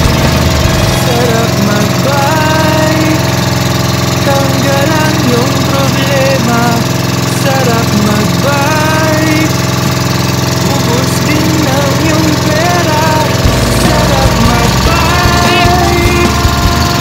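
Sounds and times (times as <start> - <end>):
small boat engine running: 0.0 - 17.0.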